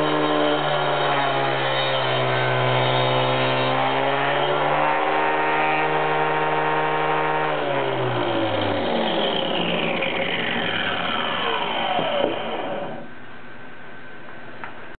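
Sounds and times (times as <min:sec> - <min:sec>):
angle grinder whining: 0:00.0 - 0:13.2.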